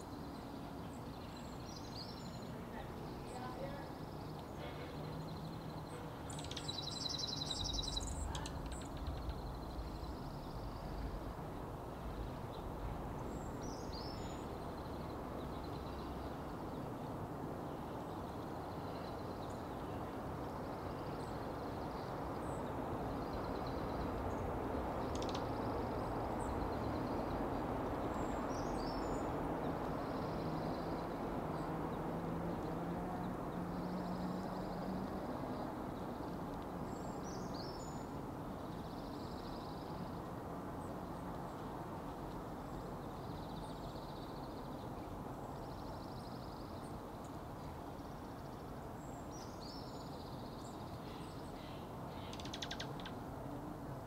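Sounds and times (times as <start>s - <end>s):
small birds chirping: 0.0s - 17.0s, 17.7s - 53.3s.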